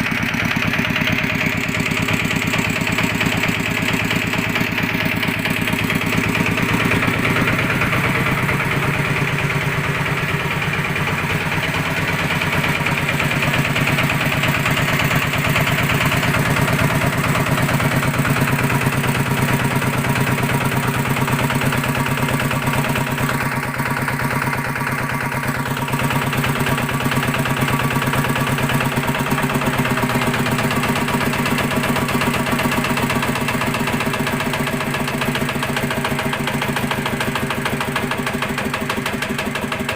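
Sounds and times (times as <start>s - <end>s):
diesel engine idling slowly: 0.0s - 39.9s
engine knocking: 0.0s - 39.9s.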